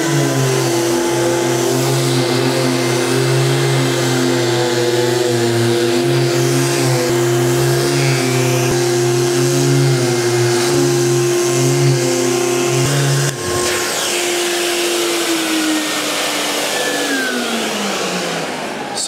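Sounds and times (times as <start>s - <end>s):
electric sander running: 0.0s - 19.0s
motor spinning down: 0.0s - 19.0s.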